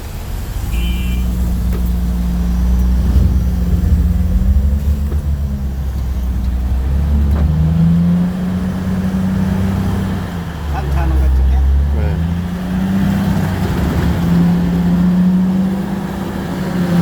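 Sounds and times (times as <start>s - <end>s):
diesel truck engine humming: 0.0s - 17.0s.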